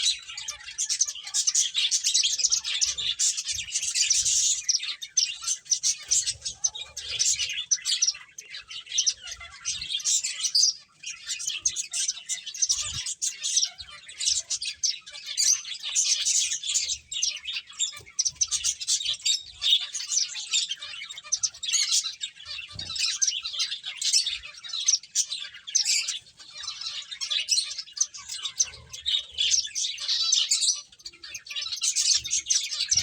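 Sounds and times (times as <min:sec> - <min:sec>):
finches chirping: 0:00.0 - 0:33.0.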